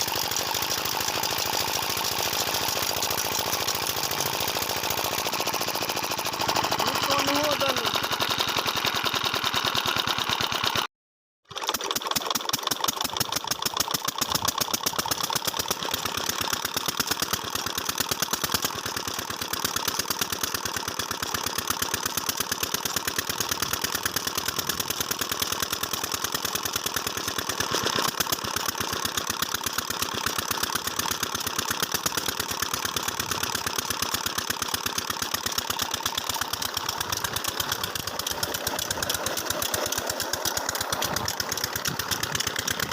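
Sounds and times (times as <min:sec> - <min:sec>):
diesel engine chugging: 0:00.0 - 0:10.8, 0:13.0 - 0:42.9.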